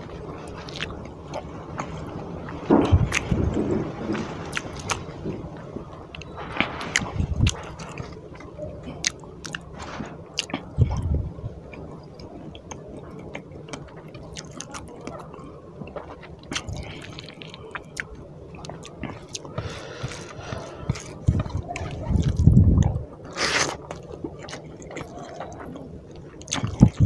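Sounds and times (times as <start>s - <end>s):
wet chewing: 0.0s - 3.6s, 4.5s - 5.0s, 5.9s - 11.1s, 11.7s - 27.0s.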